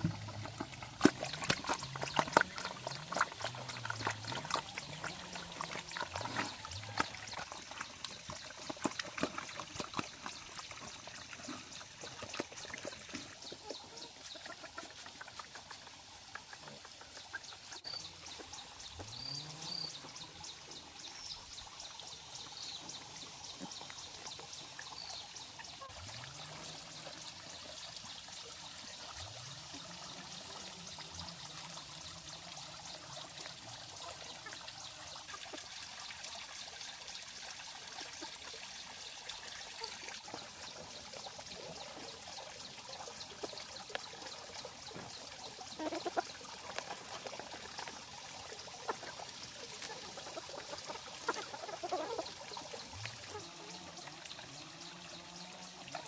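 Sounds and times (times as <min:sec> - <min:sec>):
water trickling and pouring: 0:00.0 - 0:56.0.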